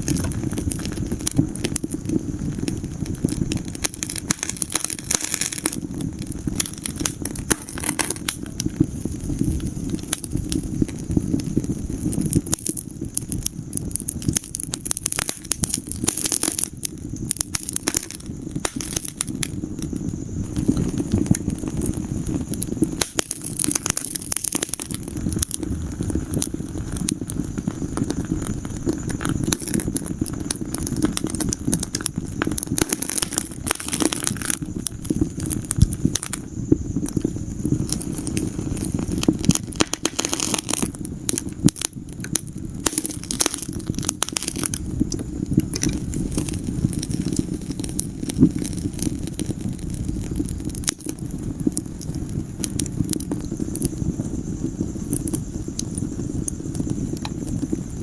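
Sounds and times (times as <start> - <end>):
fire crackling and popping: 0.0 - 58.0
low rumble of flame: 0.0 - 58.0.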